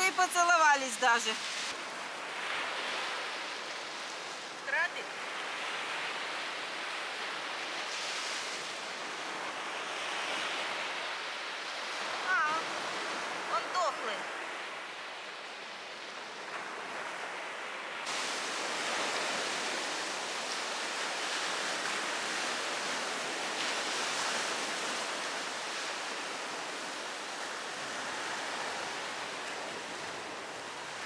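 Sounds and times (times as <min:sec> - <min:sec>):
waves breaking on beach: 0:00.0 - 0:31.0.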